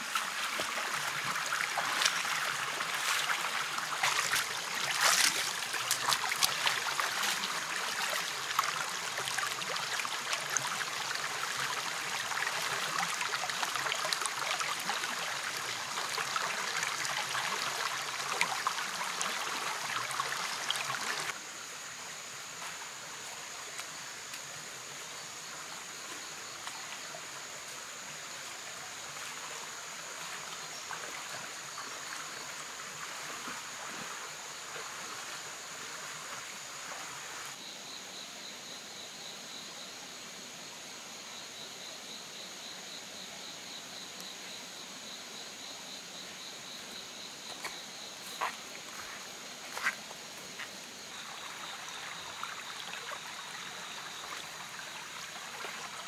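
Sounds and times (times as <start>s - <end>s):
stream rushing over stones: 0.0s - 25.1s, 26.6s - 37.6s, 46.2s - 56.0s.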